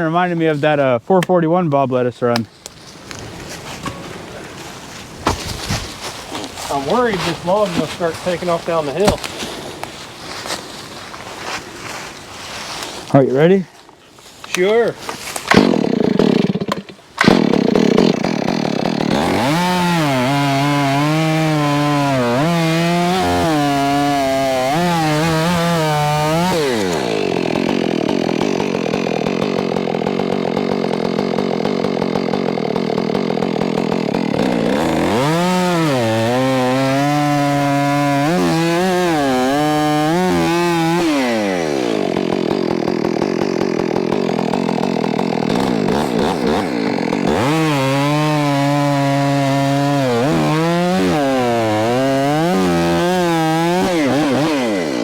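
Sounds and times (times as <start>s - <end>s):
chainsaw cutting log: 5.2s - 11.6s, 14.5s - 55.0s.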